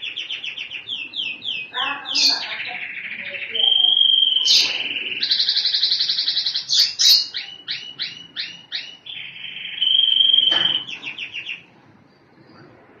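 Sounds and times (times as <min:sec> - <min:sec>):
canary singing: 0:00.0 - 0:12.6.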